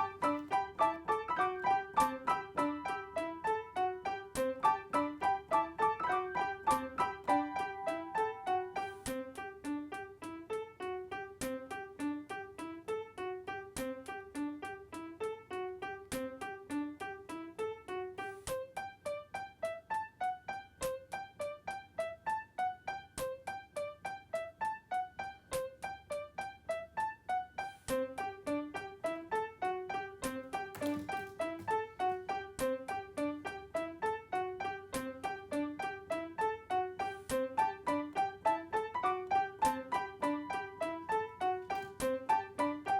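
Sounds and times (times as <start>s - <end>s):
piano music with quick notes: 0.0s - 42.9s.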